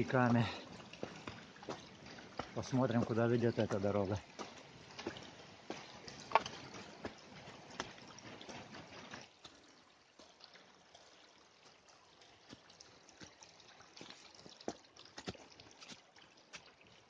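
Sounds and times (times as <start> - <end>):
footsteps on wet ground and leaves: 0.0 - 9.7, 12.4 - 17.0
water trickling: 0.0 - 17.0.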